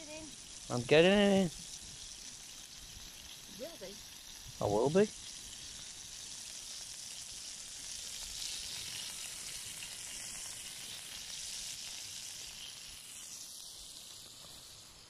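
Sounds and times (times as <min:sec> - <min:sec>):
butter sizzling in a pan: 0:00.0 - 0:15.0.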